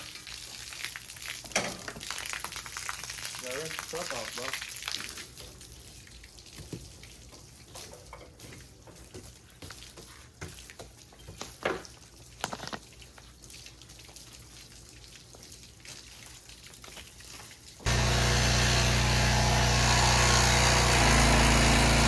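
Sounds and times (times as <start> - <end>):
hose water spattering: 0.0 - 22.0.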